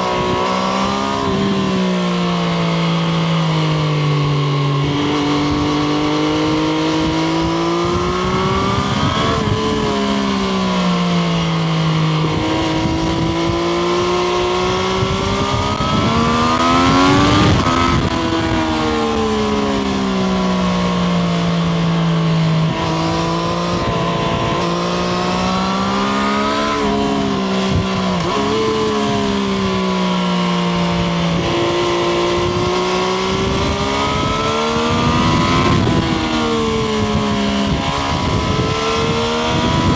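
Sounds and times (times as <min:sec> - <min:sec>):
motorcycle engine pulling under throttle: 0:00.0 - 0:39.9.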